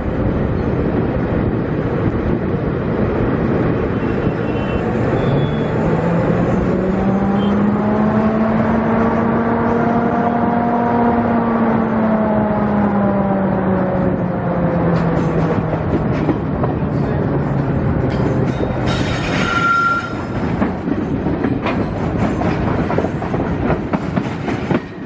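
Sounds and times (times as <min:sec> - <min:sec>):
diesel locomotive engine: 0:00.0 - 0:25.0
loud wind: 0:00.0 - 0:25.0
train track noise: 0:00.0 - 0:25.0.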